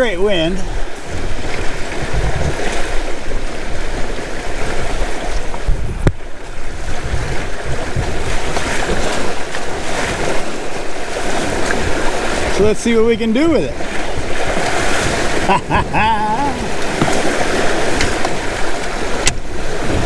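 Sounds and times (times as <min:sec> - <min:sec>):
water rushing along hulls: 0:00.0 - 0:20.0
wind buffeting microphone: 0:00.0 - 0:20.0.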